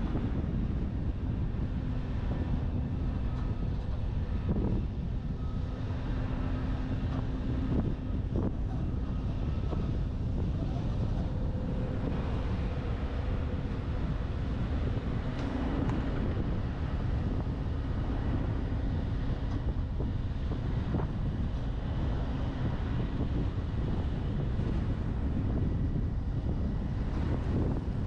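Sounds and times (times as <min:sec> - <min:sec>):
road and engine rumble: 0:00.0 - 0:28.0
wind buffeting microphone: 0:00.0 - 0:28.0.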